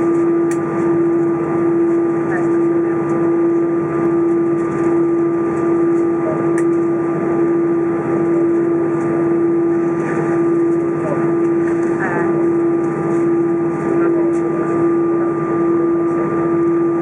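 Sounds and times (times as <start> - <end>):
air-conditioning hum: 0.0 - 17.0
high engine whine: 0.0 - 17.0.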